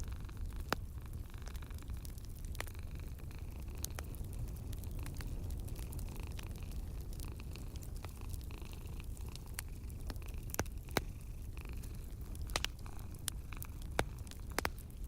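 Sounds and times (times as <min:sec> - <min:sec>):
cat purring: 0:00.0 - 0:15.0
wood fire crackling and popping: 0:00.0 - 0:15.0.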